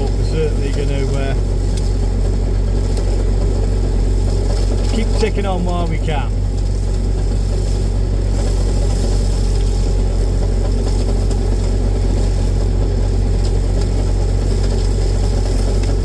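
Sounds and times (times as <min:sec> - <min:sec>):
hedgecutter working: 0:00.0 - 0:16.0
tractor engine running: 0:00.0 - 0:16.0.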